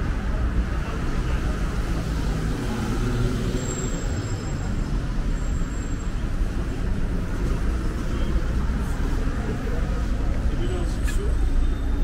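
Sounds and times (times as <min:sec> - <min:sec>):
engines rumbling: 0:00.0 - 0:12.0.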